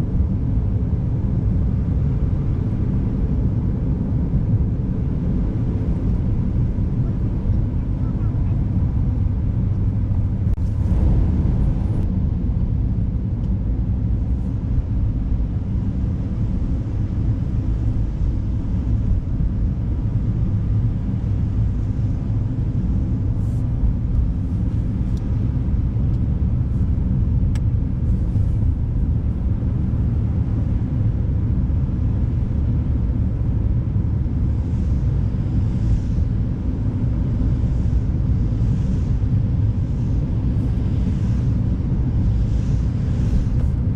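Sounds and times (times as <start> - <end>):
car tyres and engine rumble: 0.0 - 43.9.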